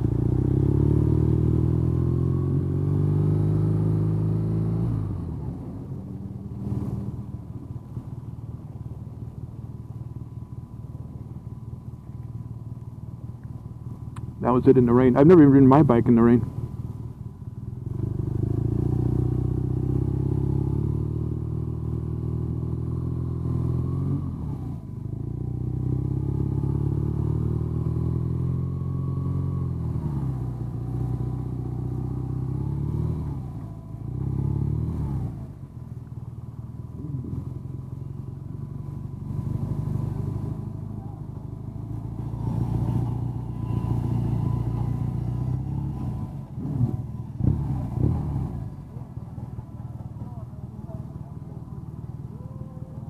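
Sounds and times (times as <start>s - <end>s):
motorcycle engine revving: 0.0s - 8.8s, 13.8s - 53.0s.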